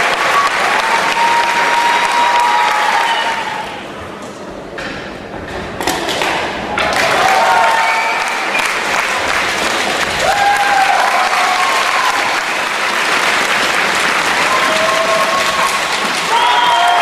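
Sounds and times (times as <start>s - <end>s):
crowd applauding: 0.0s - 3.8s, 6.7s - 17.0s.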